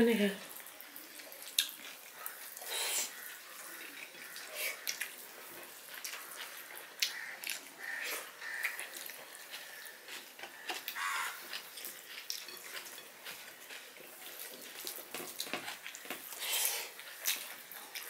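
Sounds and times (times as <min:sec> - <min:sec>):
people chewing and lip-smacking: 0:00.4 - 0:18.0.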